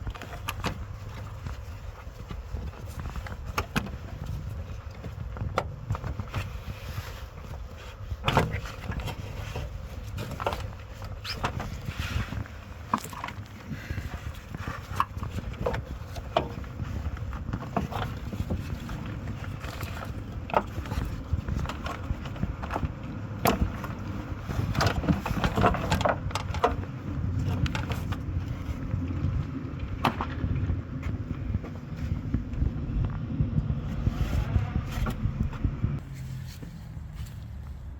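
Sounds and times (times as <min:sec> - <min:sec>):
steady low rumble: 0:00.0 - 0:37.9.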